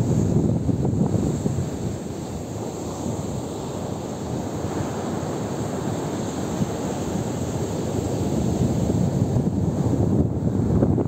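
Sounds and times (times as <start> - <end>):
surf breaking on beach: 0.0 - 11.0
wind rumbling on microphone: 0.0 - 11.0.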